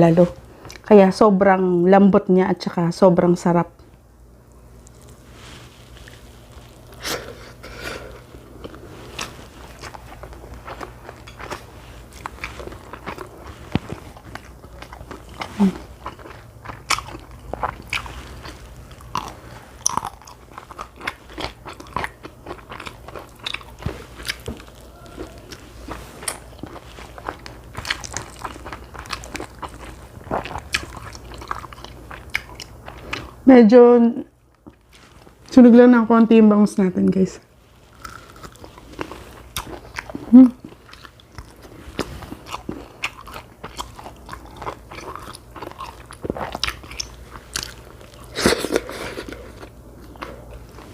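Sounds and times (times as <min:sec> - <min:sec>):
person chewing crunchy food: 0:04.8 - 0:33.4, 0:37.6 - 0:50.9.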